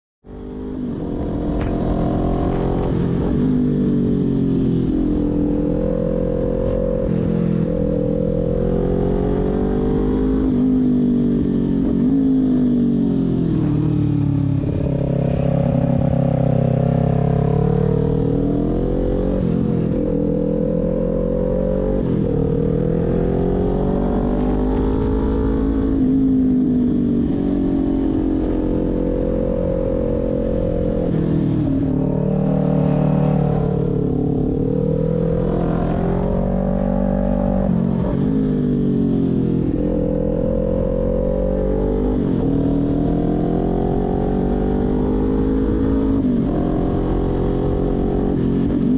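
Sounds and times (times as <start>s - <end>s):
motorcycle engine revving: 0.2s - 48.9s.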